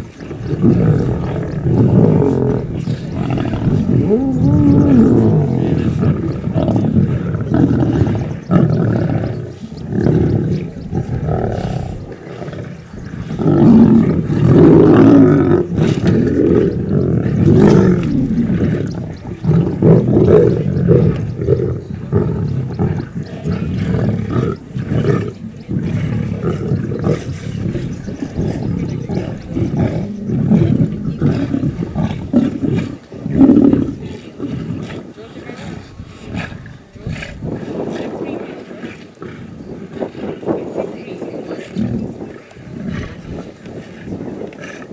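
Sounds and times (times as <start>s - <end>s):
lions growling: 0.0s - 44.9s.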